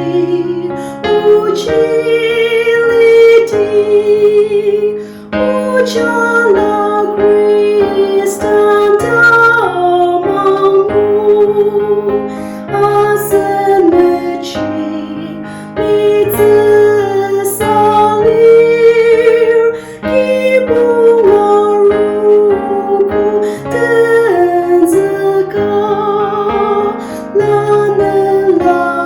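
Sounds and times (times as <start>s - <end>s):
keyboard accompaniment: 0.0s - 29.0s
woman singing slow song: 0.0s - 29.0s.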